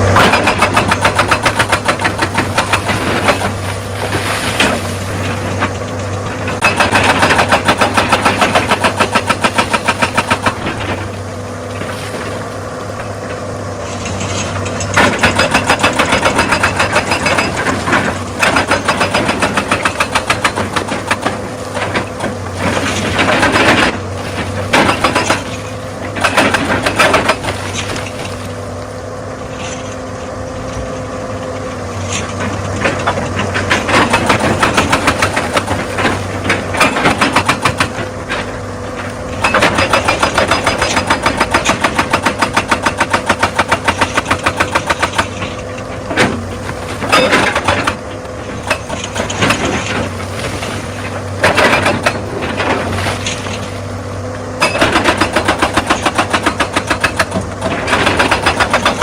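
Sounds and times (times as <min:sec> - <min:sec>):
hydraulic breaker hammering: 0:00.0 - 0:29.0, 0:32.1 - 0:59.0
excavator diesel engine: 0:00.0 - 0:59.0.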